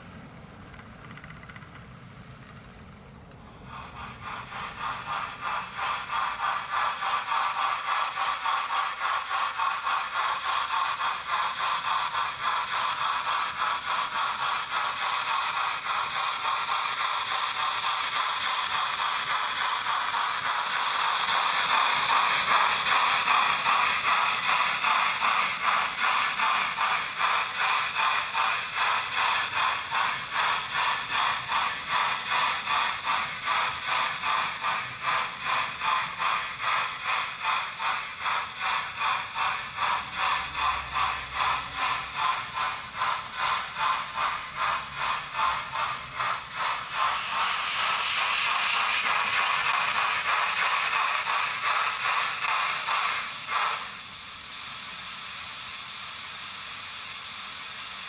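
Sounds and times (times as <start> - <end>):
model steam locomotive chuffing: 0.0 - 58.0
steam hissing: 0.0 - 58.0.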